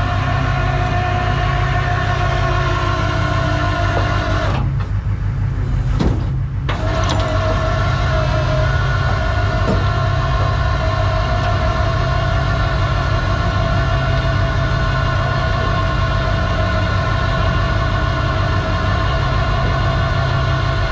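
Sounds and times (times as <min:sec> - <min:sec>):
mechanical whine: 0:00.0 - 0:20.9
truck engine droning: 0:00.0 - 0:20.9.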